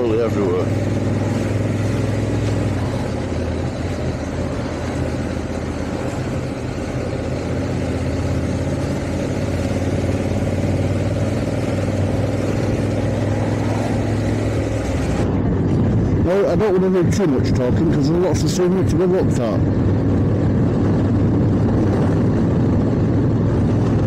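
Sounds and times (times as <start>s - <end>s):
motorcycle engine running: 0.0s - 17.4s, 18.9s - 24.0s
wind and road noise: 0.0s - 24.0s.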